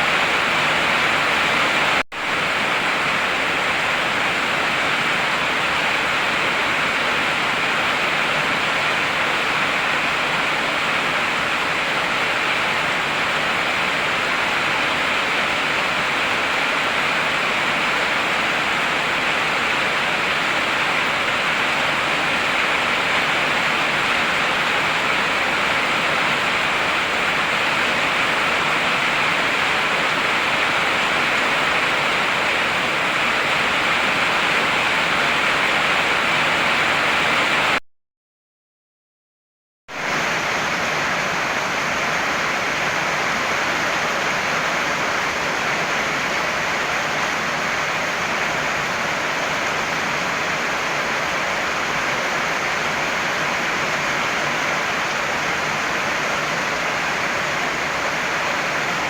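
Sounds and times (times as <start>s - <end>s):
heavy rain falling: 0.0s - 37.8s, 39.9s - 59.0s.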